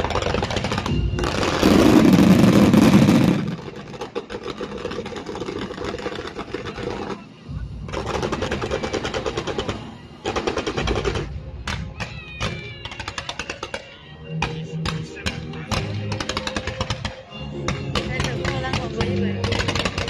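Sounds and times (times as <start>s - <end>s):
fireworks crackling pops: 0.0s - 20.0s.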